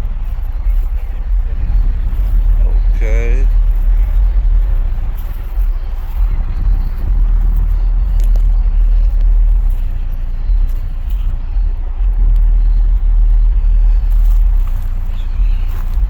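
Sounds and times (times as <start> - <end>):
deep bass rumble: 0.0 - 16.0.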